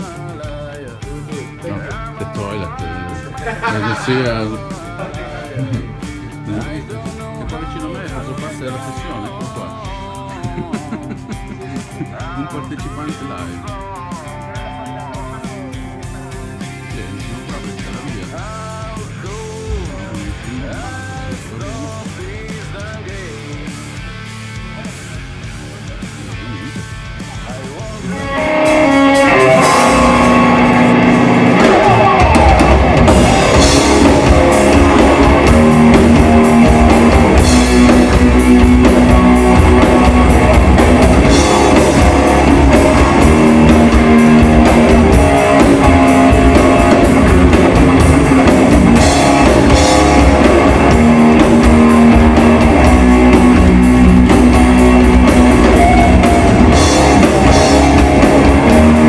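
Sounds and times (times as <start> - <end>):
loud rock music: 0.0 - 59.0.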